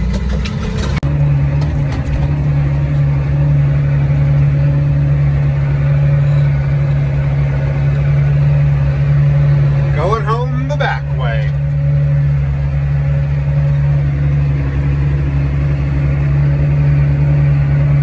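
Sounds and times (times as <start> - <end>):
tractor engine humming: 0.0 - 18.0.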